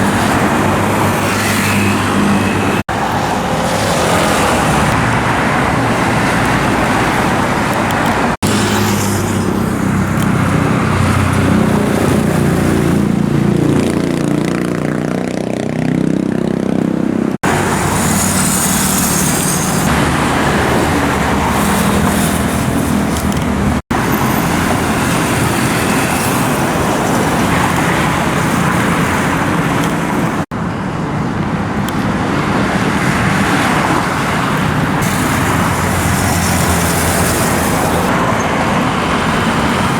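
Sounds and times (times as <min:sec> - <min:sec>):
motorcycles passing: 0:00.0 - 0:39.9
road traffic: 0:00.0 - 0:39.9.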